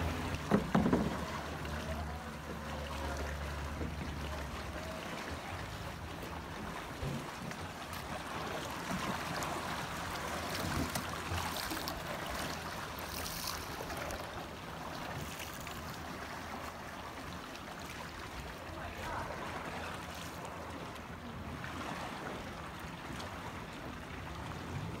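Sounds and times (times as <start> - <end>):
water lapping around kayak: 0.0 - 25.0.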